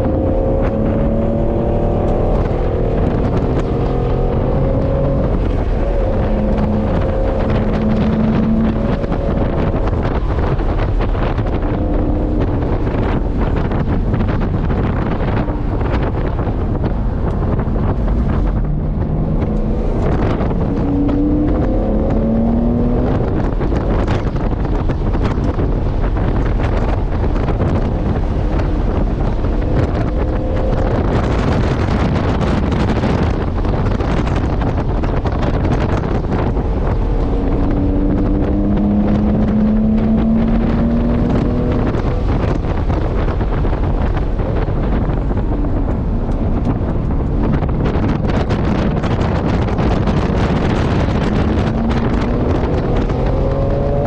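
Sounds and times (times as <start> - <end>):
race car engine running hard: 0.0 - 54.0
wind and road noise: 0.0 - 54.0.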